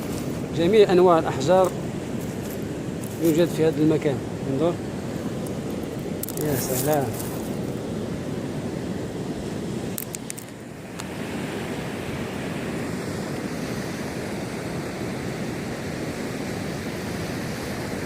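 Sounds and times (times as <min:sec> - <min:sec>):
sea surf washing on shore: 0:00.0 - 0:18.0
wind rumbling on microphone: 0:00.0 - 0:18.0.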